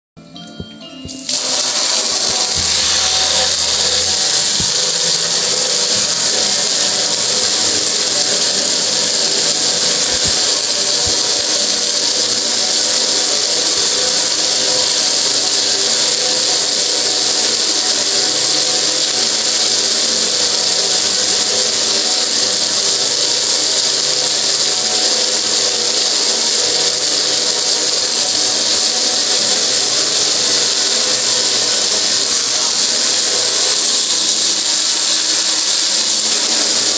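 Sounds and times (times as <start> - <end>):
pressure washer spray on metal: 1.2 - 36.9.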